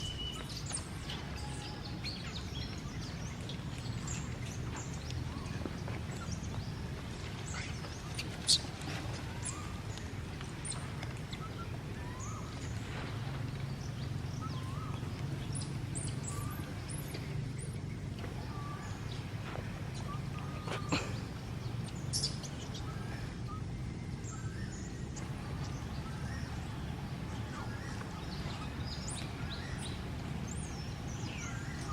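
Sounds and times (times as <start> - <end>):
birds chirping: 0.0 - 31.9
steady low rumble: 0.0 - 31.9.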